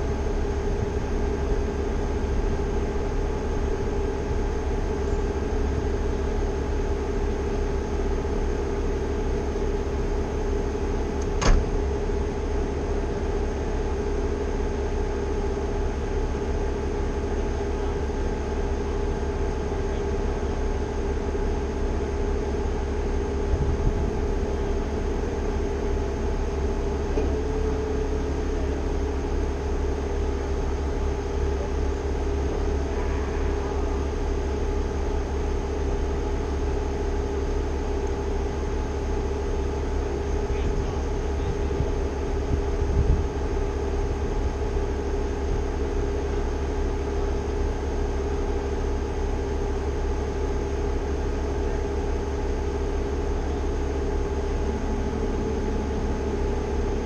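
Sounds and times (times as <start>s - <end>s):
heavy machine engine droning: 0.0s - 57.0s.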